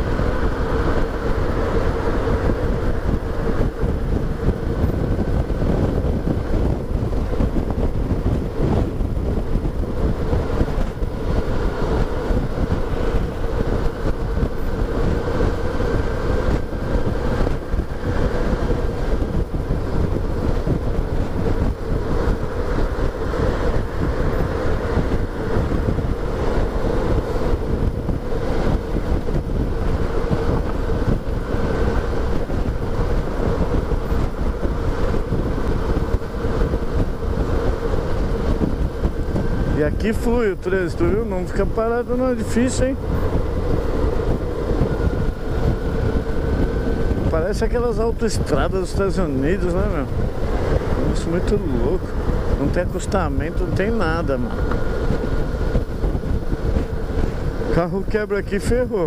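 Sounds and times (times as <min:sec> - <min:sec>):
motorcycle engine cruising: 0:00.0 - 0:59.0
wind noise on microphone: 0:00.0 - 0:59.0.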